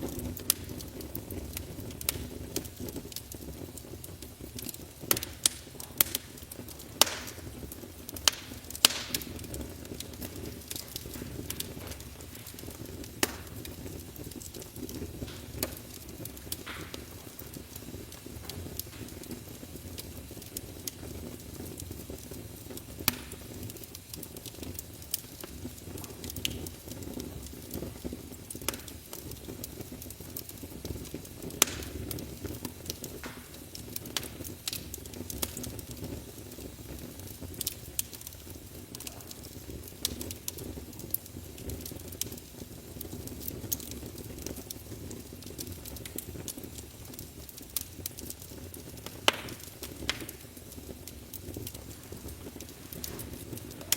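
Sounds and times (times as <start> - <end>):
fire crackling and popping: 0.0 - 53.9
low rush of flames: 0.0 - 53.9.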